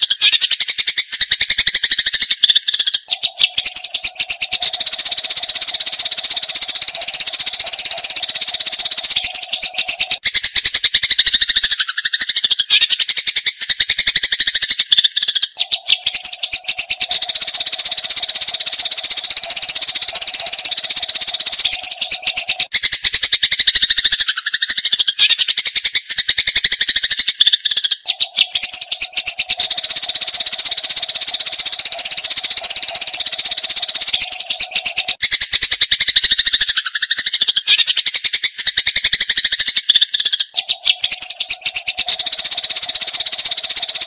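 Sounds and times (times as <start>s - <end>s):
sparrows chirping: 0.0s - 44.0s.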